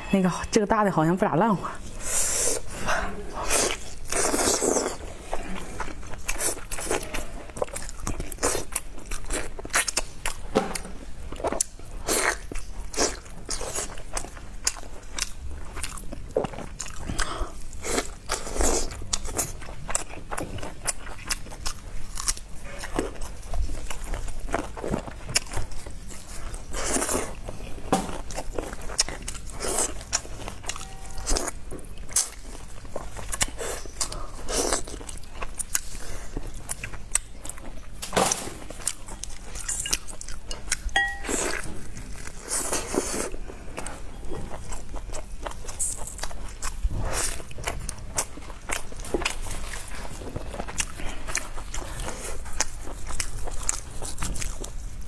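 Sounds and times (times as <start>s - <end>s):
biting and chewing meat: 3.5s - 55.0s.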